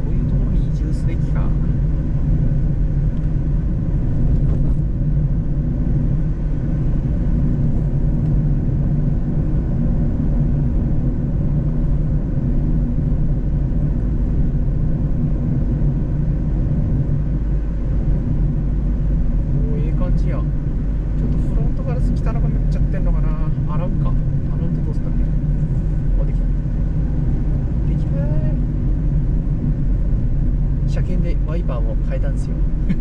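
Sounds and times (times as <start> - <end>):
car engine hum: 0.0 - 33.0
road rumble: 0.0 - 33.0.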